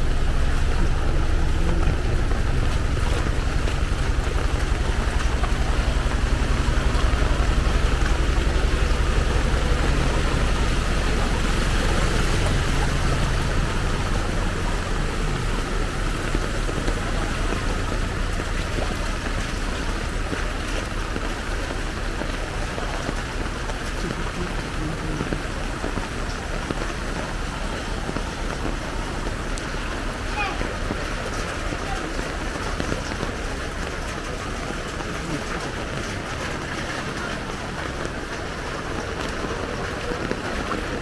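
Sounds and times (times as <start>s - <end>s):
floodwater flowing: 0.0s - 41.0s
heavy rain: 0.0s - 41.0s
vehicle engine humming: 0.0s - 41.0s.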